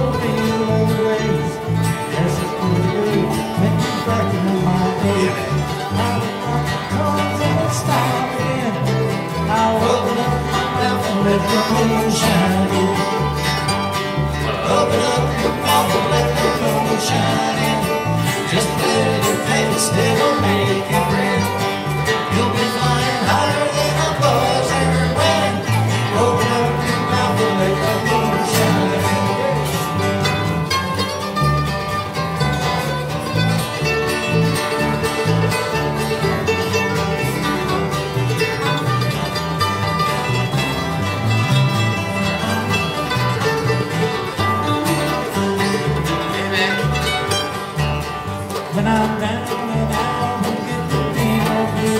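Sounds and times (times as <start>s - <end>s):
acoustic guitar picking: 0.0s - 51.9s
banjo picking: 0.0s - 51.9s
dobro: 0.0s - 51.9s
mandolin: 0.0s - 51.9s
running bass line: 0.0s - 51.9s.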